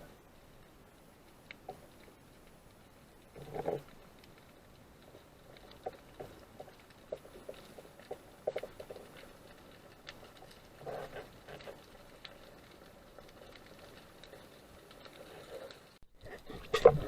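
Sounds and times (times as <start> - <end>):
underwater clicks and crackles: 0.0 - 17.0.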